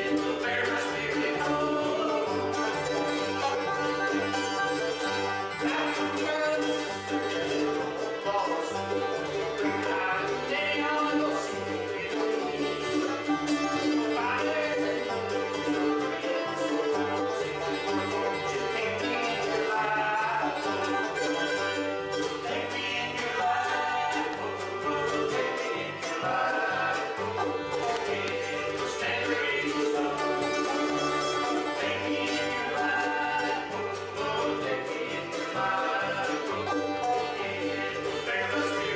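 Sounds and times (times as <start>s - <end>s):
bluegrass band playing: 0.0s - 38.9s
upright bass: 0.0s - 38.9s.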